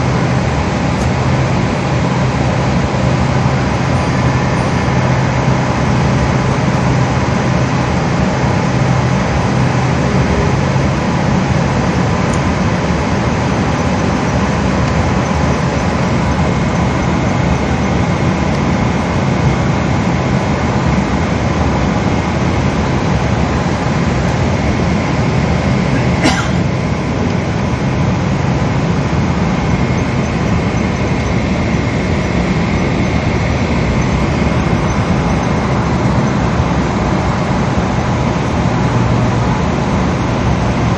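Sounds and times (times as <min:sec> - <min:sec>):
airplane engines running low: 0:00.0 - 0:40.9
faint steady whine: 0:00.0 - 0:40.9.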